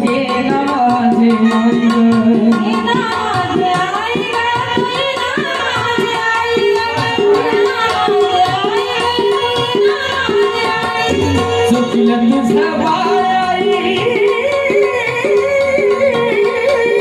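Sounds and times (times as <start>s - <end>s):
hand drum rhythm: 0.0s - 17.0s.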